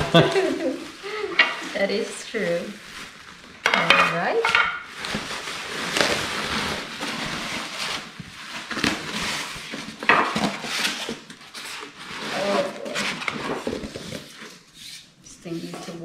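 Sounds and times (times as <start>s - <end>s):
packaging rustling: 0.2s - 14.8s.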